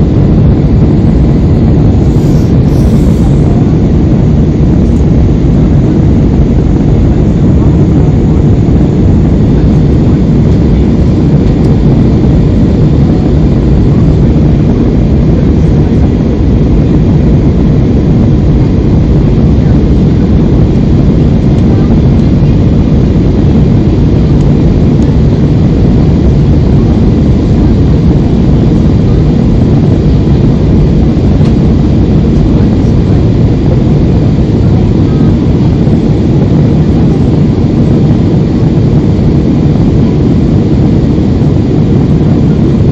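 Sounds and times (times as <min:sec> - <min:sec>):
jet airliner cabin engine noise: 0:00.0 - 0:42.9.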